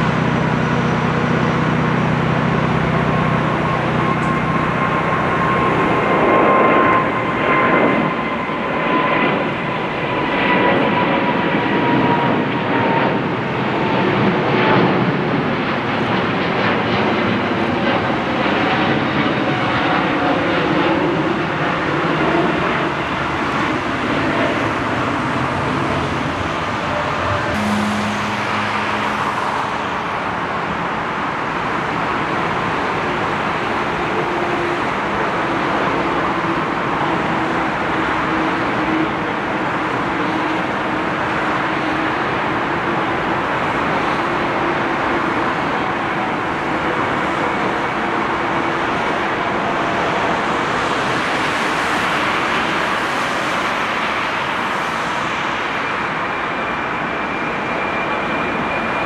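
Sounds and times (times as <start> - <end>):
jet engines rumbling at takeoff: 0.0 - 59.0.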